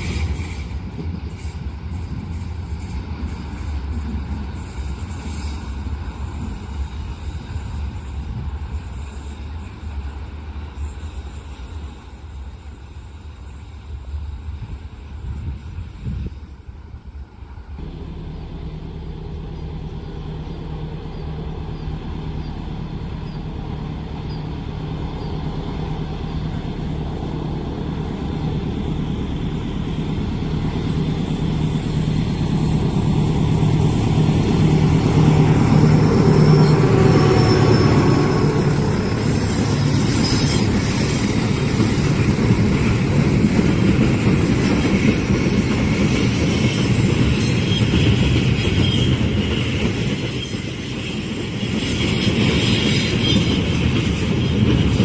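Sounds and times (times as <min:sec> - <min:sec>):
train wheels clattering on rails: 0:00.0 - 0:16.8, 0:17.5 - 0:55.0
diesel locomotive engine: 0:00.0 - 0:55.0.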